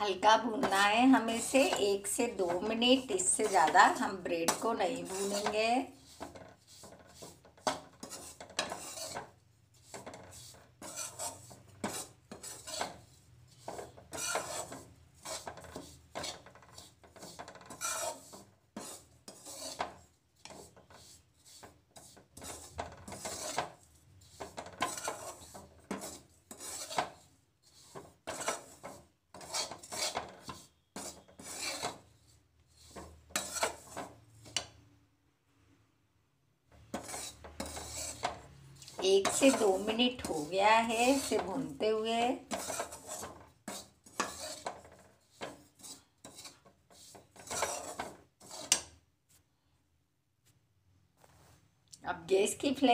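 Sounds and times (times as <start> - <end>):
metal spoon scraping a pan: 0.0 - 34.9, 36.6 - 49.0.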